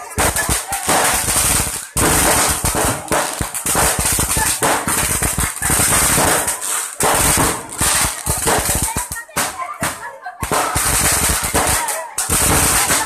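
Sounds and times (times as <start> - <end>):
firecrackers and fireworks crackling: 0.0 - 13.0.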